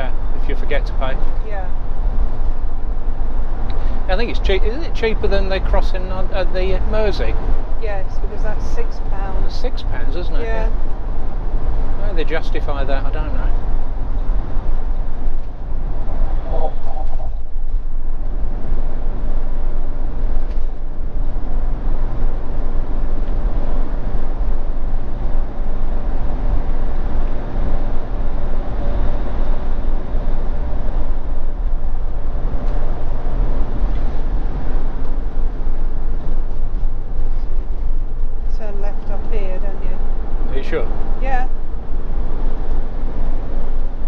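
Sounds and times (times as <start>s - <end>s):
engine and road noise: 0.0s - 44.0s.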